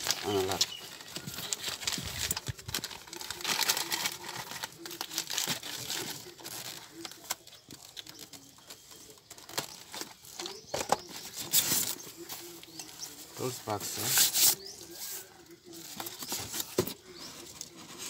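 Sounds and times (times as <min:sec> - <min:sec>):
cardboard box rustling and crinkling: 0:00.0 - 0:18.0.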